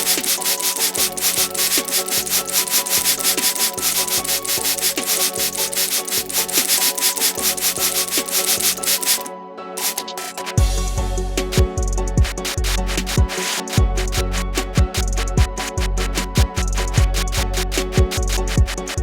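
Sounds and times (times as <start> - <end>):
rapid rubbing strokes: 0.0 - 10.6, 11.4 - 19.0.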